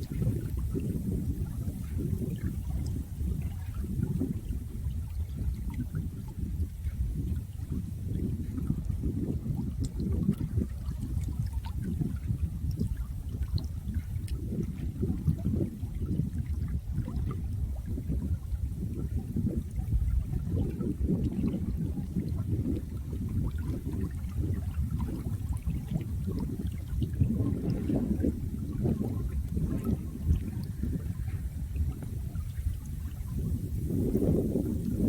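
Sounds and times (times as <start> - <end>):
water running and gurgling: 0.0 - 35.0.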